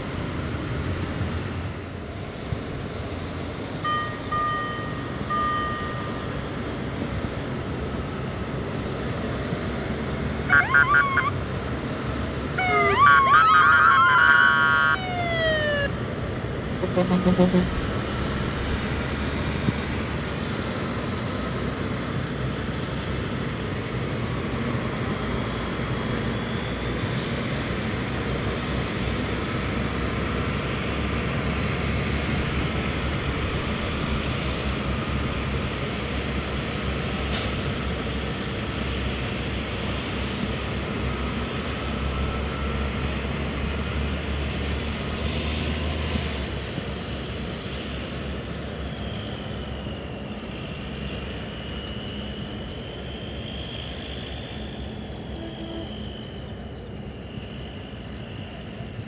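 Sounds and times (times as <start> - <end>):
fire truck engine rumbling: 0.0 - 59.0.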